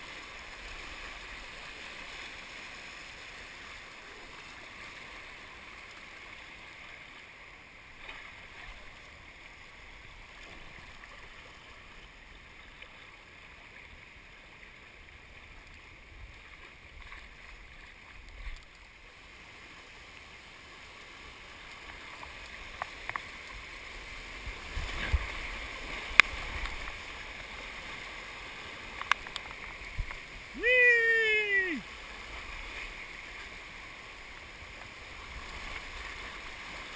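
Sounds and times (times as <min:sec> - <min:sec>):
rushing creek water: 0:00.0 - 0:36.9.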